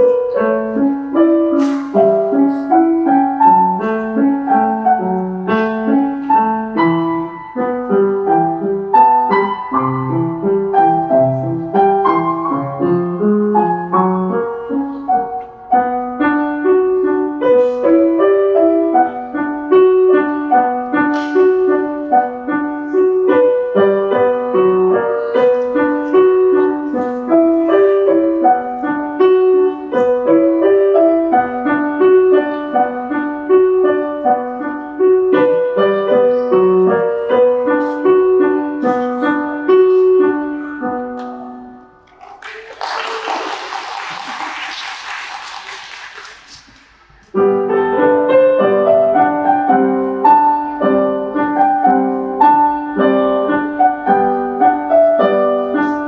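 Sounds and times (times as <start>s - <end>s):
grand piano playing: 0.0s - 42.1s, 46.4s - 56.0s.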